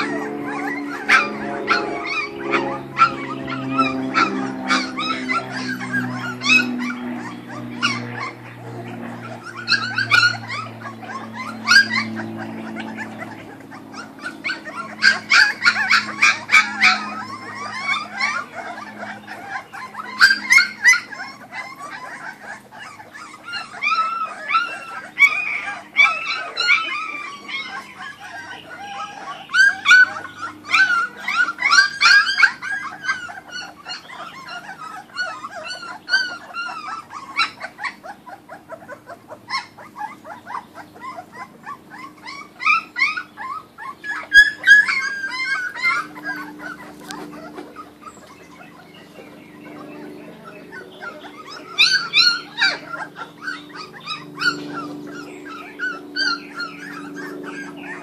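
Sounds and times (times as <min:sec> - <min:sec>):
puppies squealing and whining: 0:00.0 - 0:58.0.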